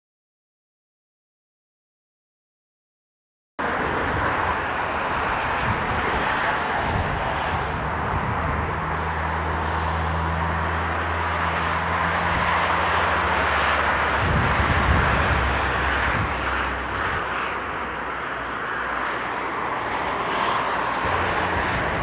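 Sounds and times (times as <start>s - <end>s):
jet engine roar: 3.6s - 22.0s.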